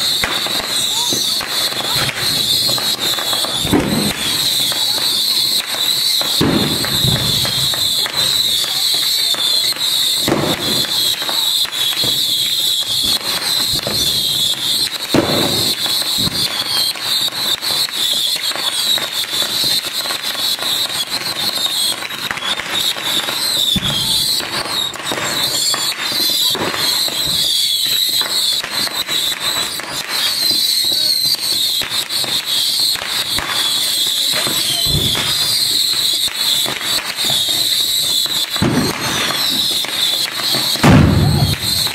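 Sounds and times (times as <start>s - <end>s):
heavy firework bangs: 0.0s - 41.9s
whistling rockets: 0.0s - 41.9s.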